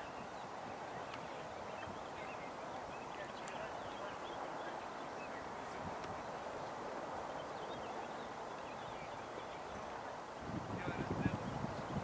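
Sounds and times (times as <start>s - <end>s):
water rushing and splashing: 0.0s - 12.0s.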